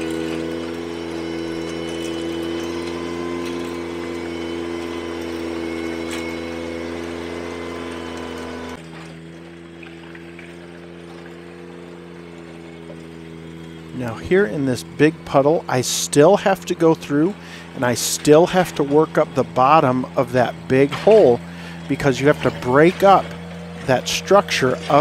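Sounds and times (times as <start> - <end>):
rake churning through gravel: 0.0 - 25.0
tractor engine running: 0.0 - 25.0.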